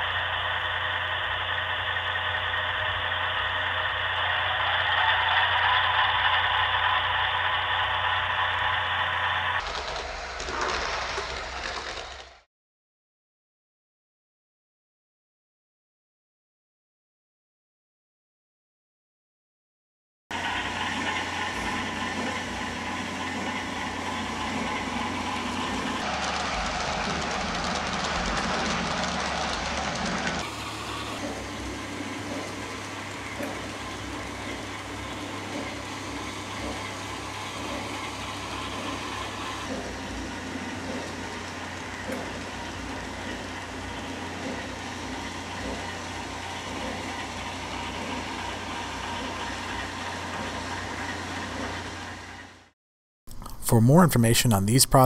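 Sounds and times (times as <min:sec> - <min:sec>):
wheels clicking on track: 0:00.0 - 0:12.4, 0:20.3 - 0:52.7.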